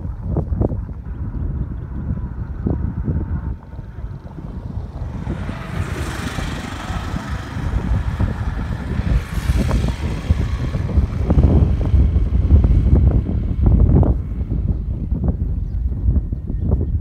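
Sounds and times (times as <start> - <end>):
steady engine drone: 0.0 - 17.0
wind buffeting microphone: 0.0 - 17.0.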